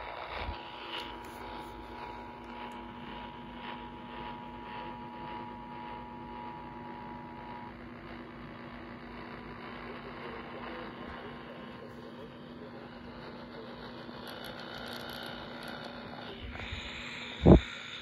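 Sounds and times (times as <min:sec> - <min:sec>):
radio static: 0:00.0 - 0:18.0
steady low hum: 0:00.0 - 0:18.0.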